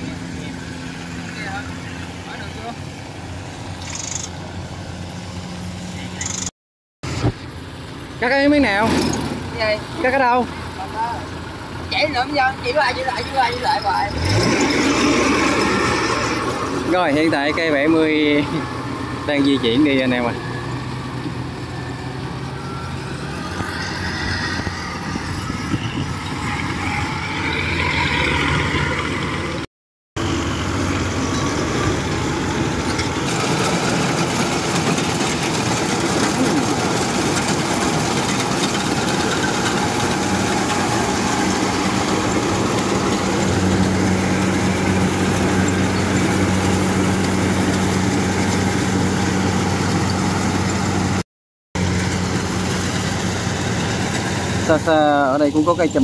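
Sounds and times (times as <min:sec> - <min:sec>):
diesel engine running under load: 0:00.0 - 0:51.2, 0:51.8 - 0:56.0.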